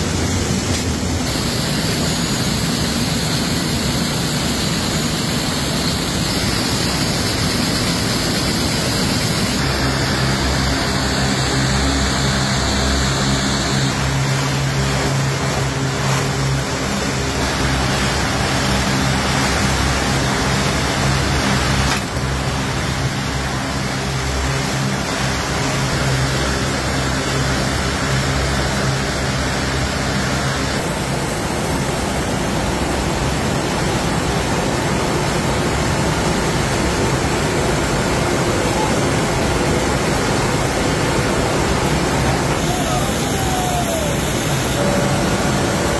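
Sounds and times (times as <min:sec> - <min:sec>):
low hum: 0:00.0 - 0:45.9
mill machinery din: 0:00.0 - 0:45.9.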